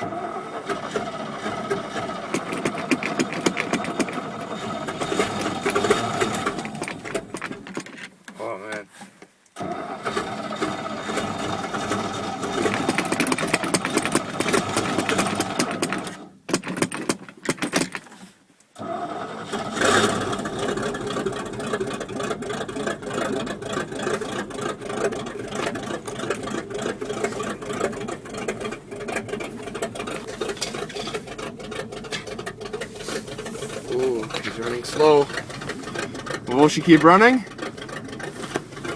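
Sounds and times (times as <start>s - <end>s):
engine running unevenly: 0.0s - 7.9s, 9.6s - 16.4s, 18.8s - 38.9s
car engine cranking on starter: 0.0s - 38.9s.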